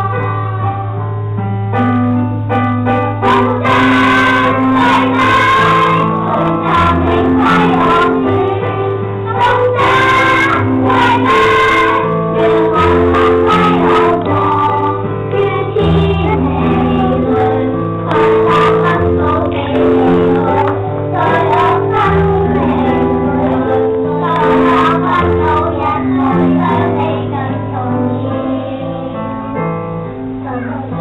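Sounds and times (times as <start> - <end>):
children singing: 0.0 - 1.2, 2.8 - 29.8
keyboard accompaniment: 0.0 - 31.0.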